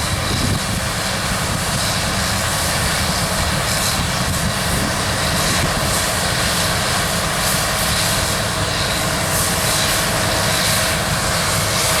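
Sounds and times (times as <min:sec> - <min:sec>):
combine harvester engine and threshing drone: 0:00.0 - 0:12.0.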